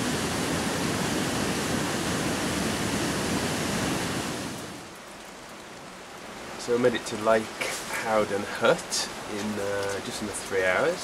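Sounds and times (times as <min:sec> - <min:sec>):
rushing stream water: 0:00.0 - 0:11.0.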